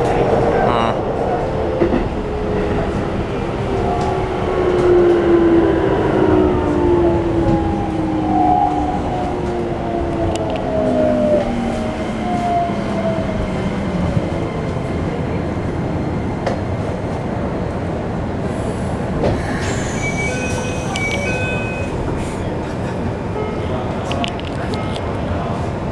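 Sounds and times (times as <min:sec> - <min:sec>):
train inverter whining: 0:00.0 - 0:17.0, 0:18.9 - 0:25.4.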